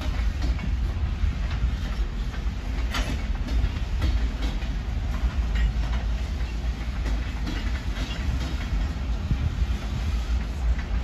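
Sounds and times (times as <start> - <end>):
freight train rumbling: 0.0 - 11.0
train cars clicking and clanking: 0.0 - 11.0.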